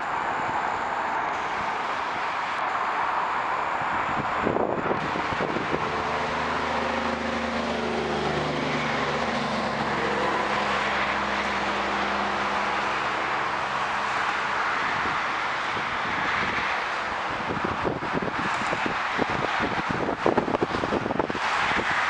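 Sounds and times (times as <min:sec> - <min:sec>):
vehicle engine humming: 0:00.0 - 0:22.0
wind and road noise: 0:00.0 - 0:22.0.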